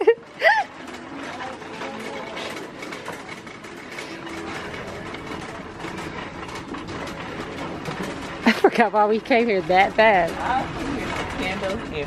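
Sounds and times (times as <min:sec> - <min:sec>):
shopping cart wheels rattling: 0:00.0 - 0:12.0.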